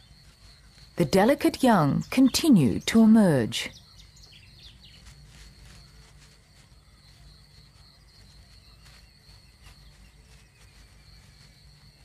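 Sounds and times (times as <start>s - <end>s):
insect whine: 0.0s - 2.2s, 3.7s - 12.0s.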